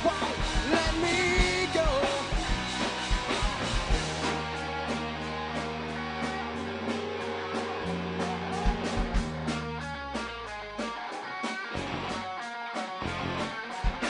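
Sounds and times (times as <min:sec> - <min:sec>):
low bass notes: 0:00.0 - 0:11.0, 0:11.7 - 0:12.3, 0:13.0 - 0:14.0
drum and cymbal beat: 0:00.0 - 0:14.0
guitar chords: 0:00.0 - 0:14.0.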